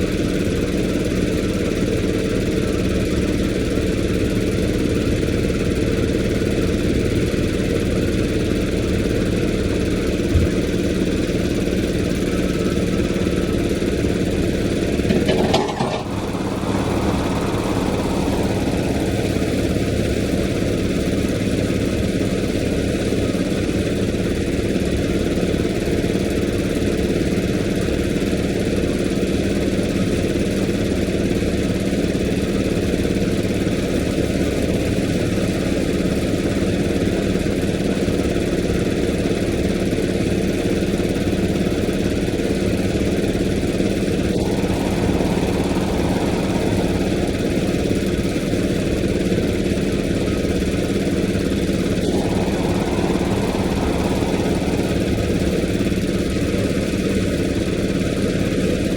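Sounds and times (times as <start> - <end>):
engine idling: 0.0 - 58.9.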